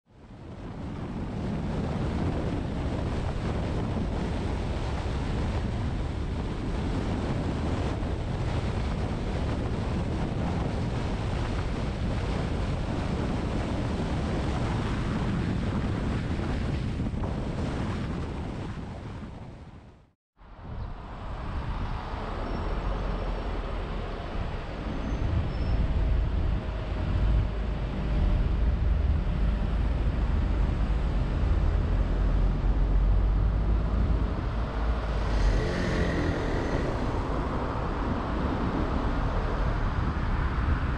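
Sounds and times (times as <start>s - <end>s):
car road and wind noise: 0.1s - 40.9s.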